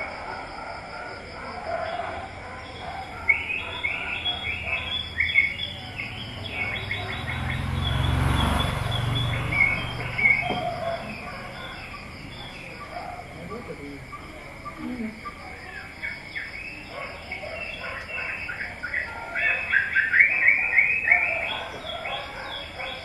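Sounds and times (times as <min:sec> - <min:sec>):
insects trilling: 0:00.0 - 0:23.0
small birds chirping: 0:01.5 - 0:23.0.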